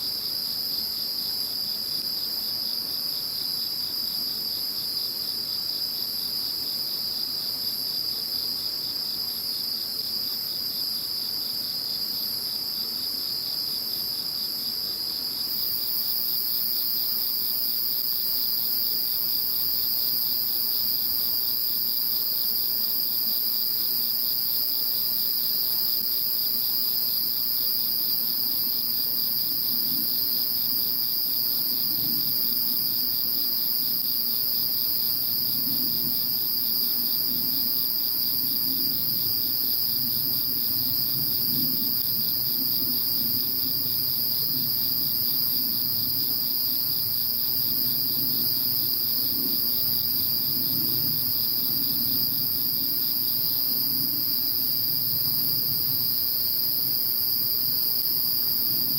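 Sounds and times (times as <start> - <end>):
insects trilling: 11.2 - 58.9.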